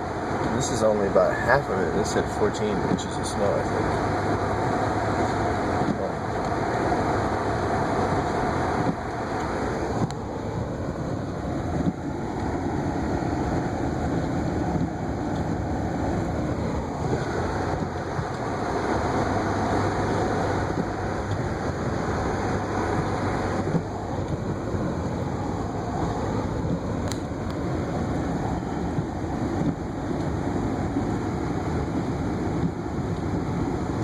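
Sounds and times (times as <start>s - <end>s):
car tyres and engine rumble: 0.0s - 34.0s.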